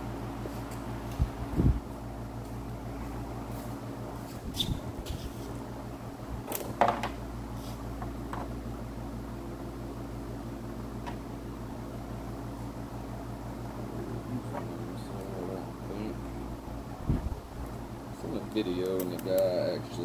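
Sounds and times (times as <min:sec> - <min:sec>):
mechanical fan hum: 0:00.0 - 0:20.0.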